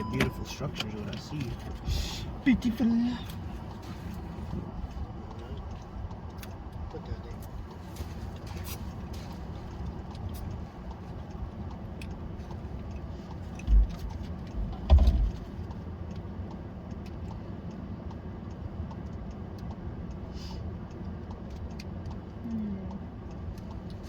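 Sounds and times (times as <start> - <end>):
vehicle rumble: 0.0 - 24.0
faint ticks: 3.2 - 24.0.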